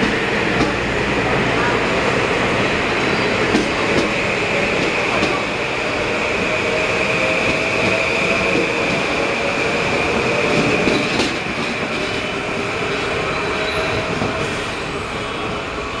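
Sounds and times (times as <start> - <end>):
electric train passing: 0.0 - 16.0
train wheels on rails: 0.0 - 16.0.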